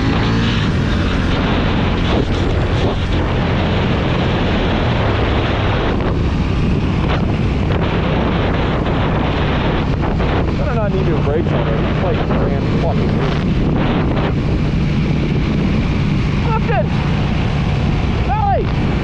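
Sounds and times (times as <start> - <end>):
motorcycle engine running: 0.0 - 19.0
wind noise on microphone: 0.0 - 19.0.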